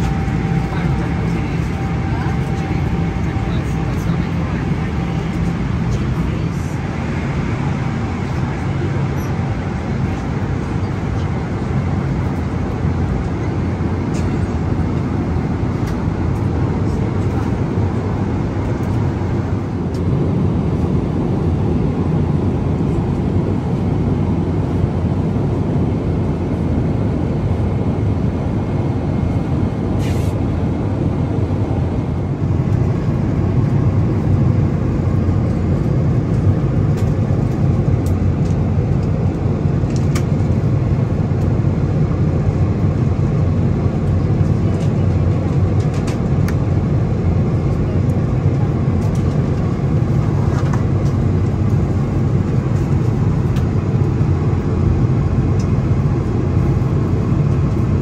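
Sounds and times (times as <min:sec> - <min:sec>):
airplane cabin engine roar: 0:00.0 - 0:58.0.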